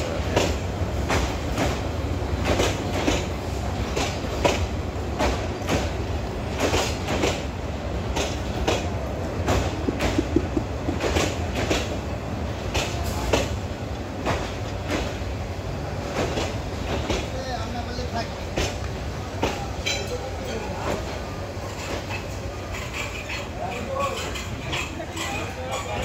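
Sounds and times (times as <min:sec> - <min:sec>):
wheels clacking over rail joints: 0:00.0 - 0:15.4, 0:16.0 - 0:26.0
train rolling past rumbling: 0:00.0 - 0:26.0.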